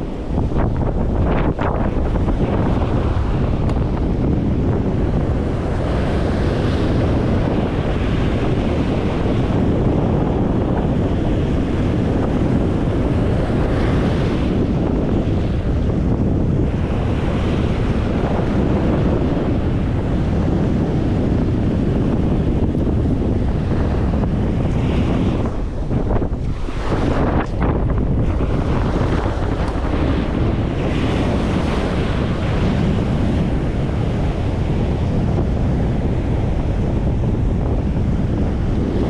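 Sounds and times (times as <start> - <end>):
surf breaking on beach: 0.0 - 39.0
wind buffeting microphone: 0.0 - 39.0.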